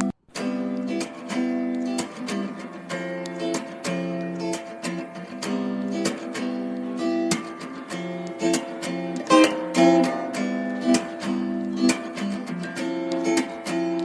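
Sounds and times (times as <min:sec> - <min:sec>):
acoustic guitar strumming and plucking: 0:00.0 - 0:14.0.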